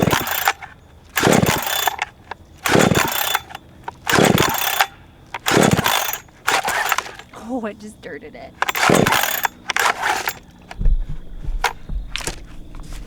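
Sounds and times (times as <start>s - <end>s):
chainsaw starter cord pulled: 0.0s - 7.4s, 8.5s - 10.8s, 11.6s - 12.6s.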